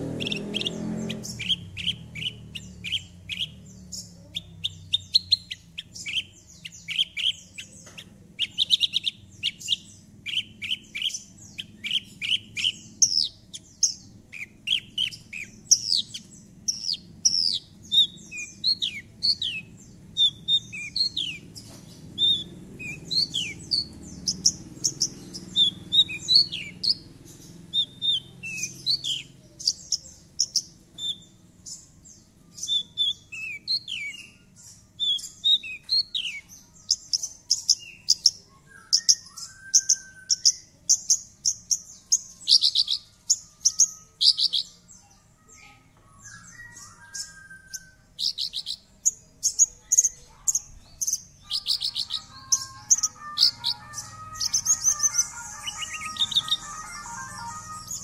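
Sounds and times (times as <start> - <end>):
lark singing chirps and trills: 0.0 - 58.0.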